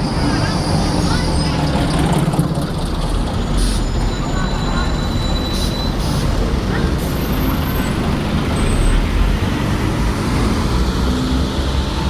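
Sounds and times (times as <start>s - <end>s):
heavy vehicle engine rumbling: 0.0s - 12.0s
road noise: 0.0s - 12.0s.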